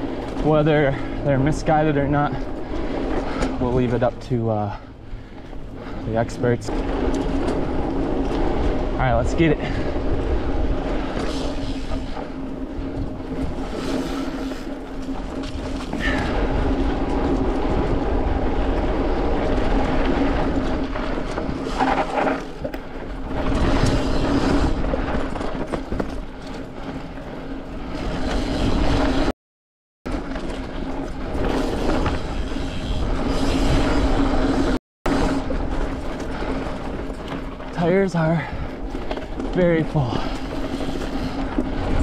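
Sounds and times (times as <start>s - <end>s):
bike tyres rattling over trail: 0.0s - 29.3s, 30.1s - 42.0s
wind rumble on microphone: 0.0s - 29.3s, 30.1s - 42.0s.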